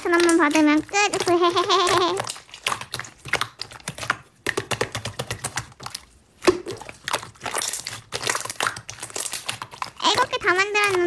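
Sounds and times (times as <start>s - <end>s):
slime squeezed clicking and popping: 0.0s - 11.0s.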